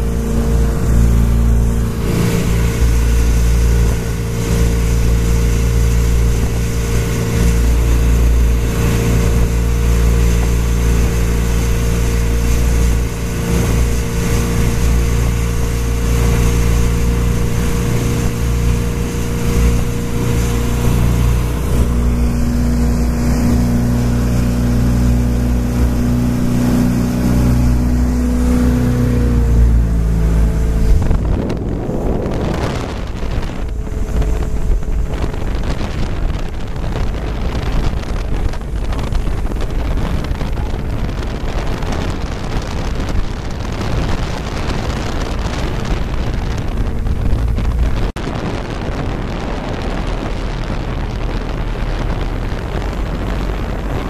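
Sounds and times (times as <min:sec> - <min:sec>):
boat engine running hard: 0:00.0 - 0:54.0
water passing boat hull: 0:00.0 - 0:54.0
wind buffeting microphone: 0:00.0 - 0:54.0.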